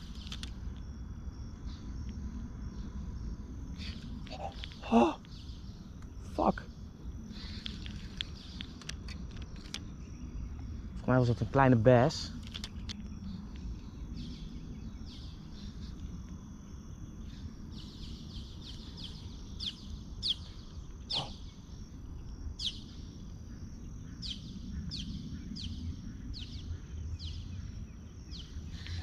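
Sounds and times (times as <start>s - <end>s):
wind rumble on microphone: 0.0s - 29.0s
birds chirping: 2.7s - 29.0s.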